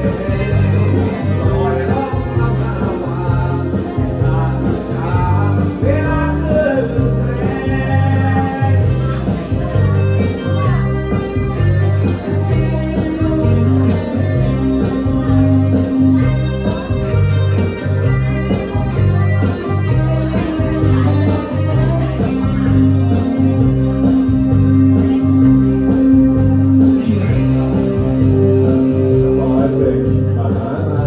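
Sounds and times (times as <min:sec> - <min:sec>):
electric guitars: 0:00.0 - 0:31.0
keyboard: 0:00.0 - 0:31.0.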